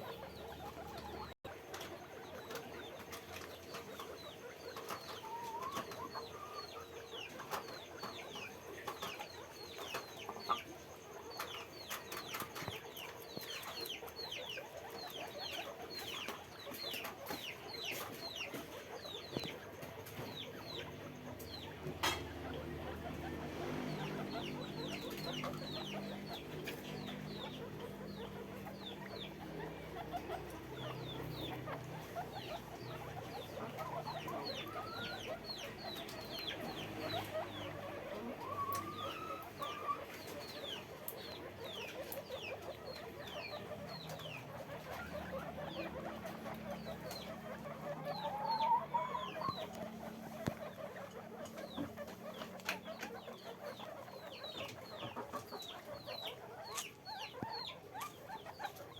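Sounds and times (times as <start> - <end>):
guinea pigs squeaking: 0.0 - 58.9.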